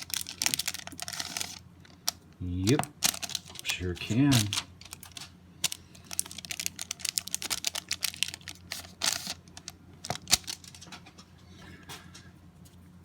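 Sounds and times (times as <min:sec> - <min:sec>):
card wrapper rustling: 0:00.0 - 0:11.1.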